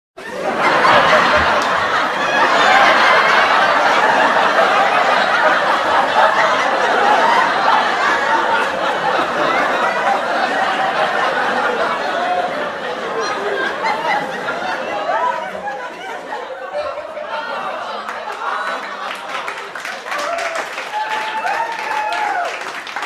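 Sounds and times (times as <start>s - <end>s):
audience laughing and applauding: 0.2s - 23.0s.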